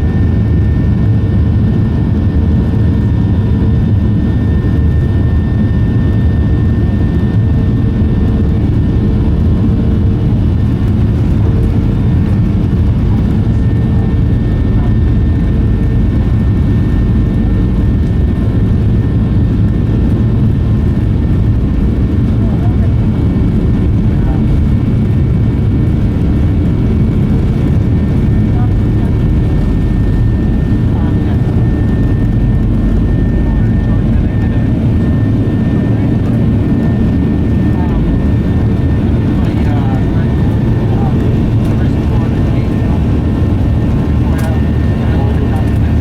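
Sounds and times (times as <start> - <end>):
faint engine whine: 0.0 - 46.0
jet engine cabin roar: 0.0 - 46.0.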